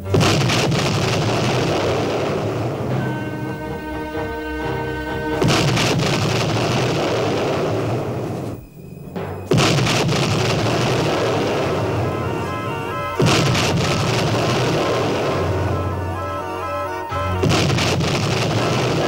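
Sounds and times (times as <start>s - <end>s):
background music: 0.0s - 19.0s
heavy explosion booms: 0.0s - 19.0s.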